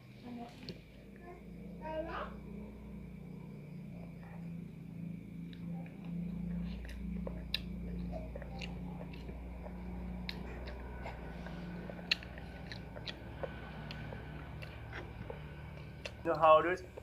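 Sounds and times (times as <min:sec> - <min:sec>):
steady low hum: 0:00.0 - 0:17.0
child chewing food: 0:02.3 - 0:17.0.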